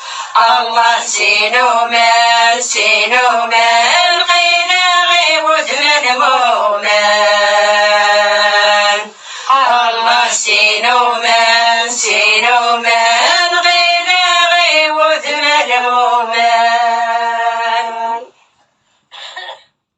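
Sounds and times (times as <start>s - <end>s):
person singing unaccompanied: 0.0s - 18.4s.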